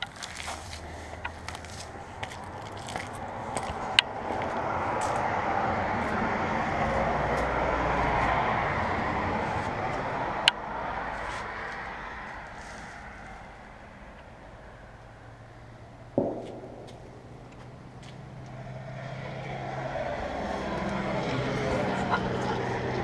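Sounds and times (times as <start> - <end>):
vehicle driving past: 3.1 - 23.0.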